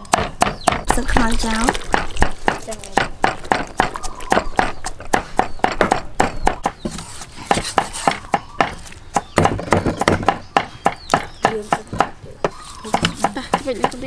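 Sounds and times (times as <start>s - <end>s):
cleaver chopping on wooden block: 0.0s - 1.1s, 1.7s - 14.0s.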